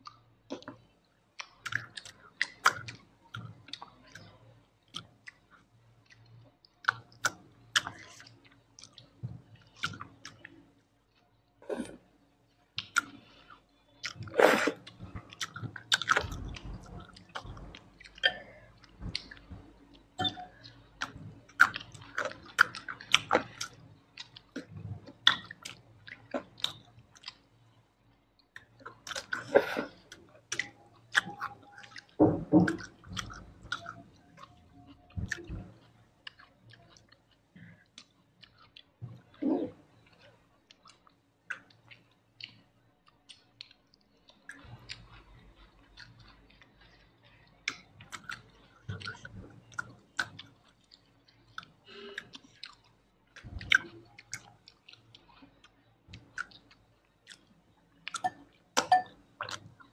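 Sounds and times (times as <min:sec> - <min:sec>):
wet chewing: 0:01.4 - 0:11.2, 0:12.8 - 0:59.9.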